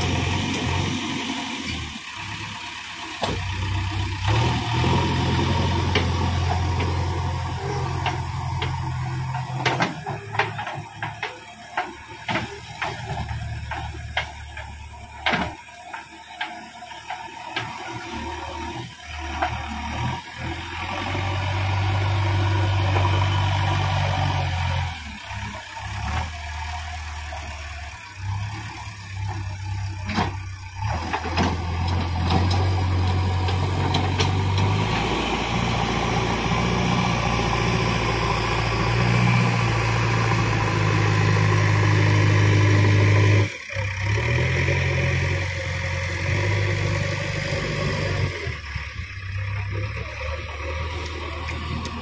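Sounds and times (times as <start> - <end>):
backhoe diesel engine digging: 0.0 - 52.0.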